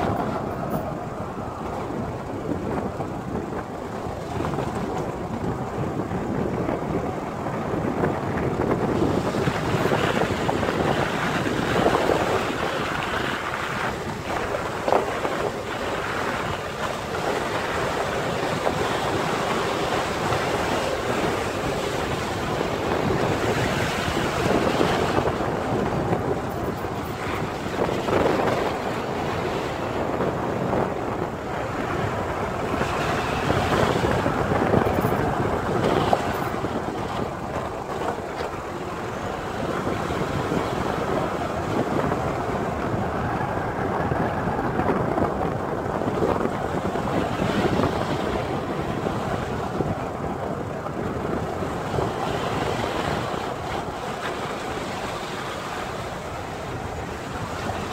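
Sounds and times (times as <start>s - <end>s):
vehicle road noise: 0.0s - 57.9s
wind rushing over microphone: 0.0s - 57.9s.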